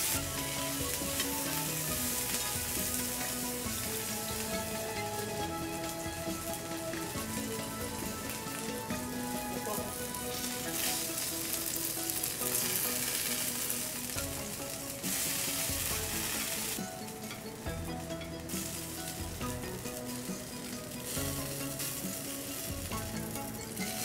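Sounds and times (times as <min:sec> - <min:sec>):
eggplant sizzling in oil: 0:00.0 - 0:24.0
faint background music: 0:00.0 - 0:24.0.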